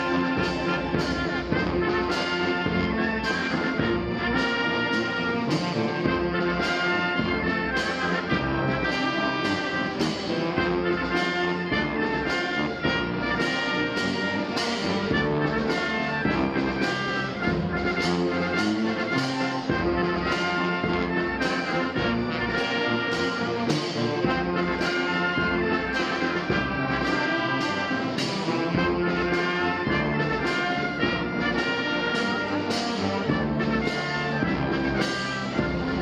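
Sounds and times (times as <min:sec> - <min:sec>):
wind band playing a march: 0:00.0 - 0:36.0.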